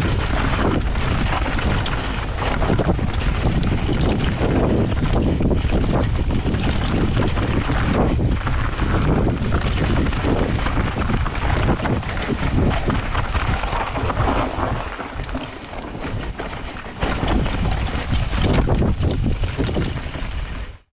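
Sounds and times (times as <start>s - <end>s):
bike tyres on dirt: 0.0s - 20.8s
bike rattling over rough ground: 0.0s - 20.9s
wind rushing over microphone: 0.0s - 20.9s.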